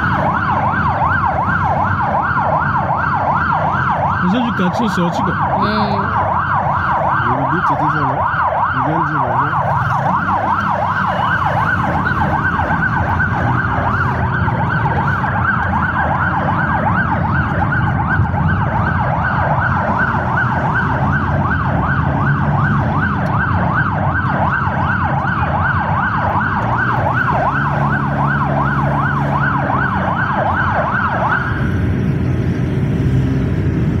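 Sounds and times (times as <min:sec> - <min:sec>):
car engine rumble and road noise: 0:00.0 - 0:34.0
vehicle siren yelping: 0:00.0 - 0:34.0.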